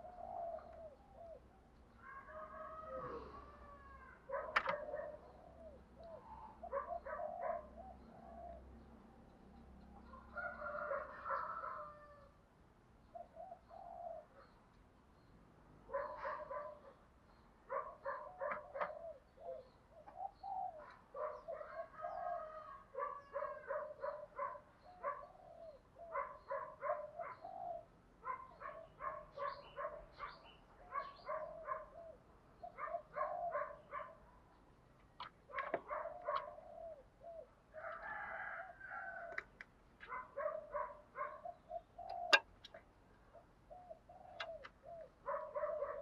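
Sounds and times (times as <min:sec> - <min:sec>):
dove cooing: 0:00.0 - 0:08.6, 0:13.2 - 0:14.5, 0:15.9 - 0:16.9, 0:17.7 - 0:34.1, 0:35.5 - 0:39.4, 0:40.1 - 0:46.0.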